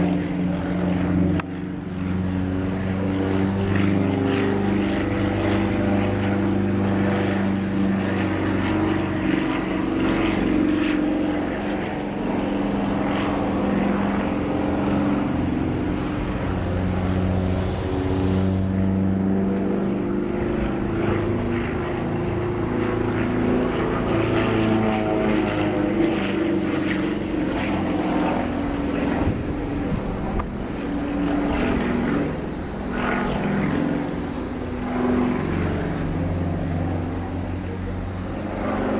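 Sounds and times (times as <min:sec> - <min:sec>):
propeller airplane engine: 0:00.0 - 0:38.9.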